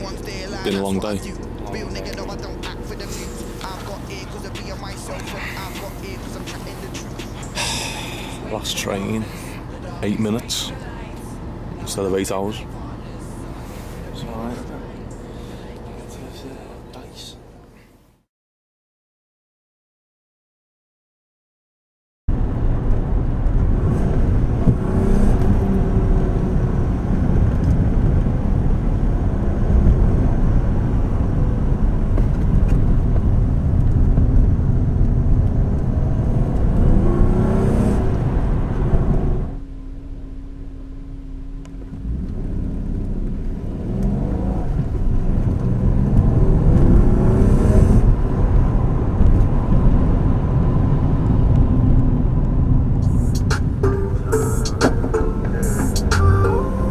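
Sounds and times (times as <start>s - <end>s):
car engine accelerating: 0.0s - 17.4s, 22.3s - 56.9s.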